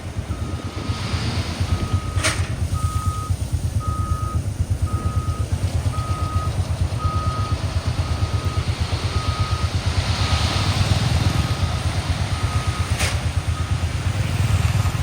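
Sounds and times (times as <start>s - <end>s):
backup alarm beeping: 0.0s - 15.0s
diesel engine throbbing: 0.0s - 15.0s.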